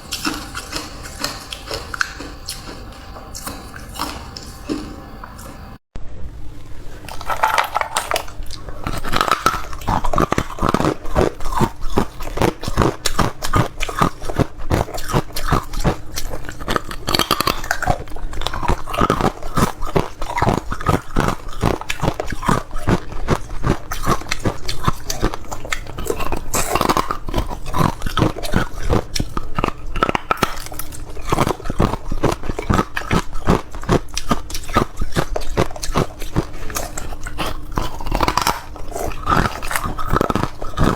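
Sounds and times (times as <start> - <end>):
person crunching ice: 6.8 - 40.9.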